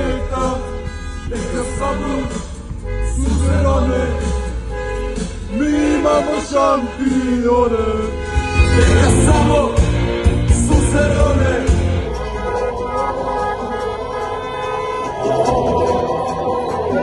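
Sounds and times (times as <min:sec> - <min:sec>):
man singing: 0:00.0 - 0:04.6, 0:05.4 - 0:17.0
heavy bass music: 0:00.0 - 0:17.0.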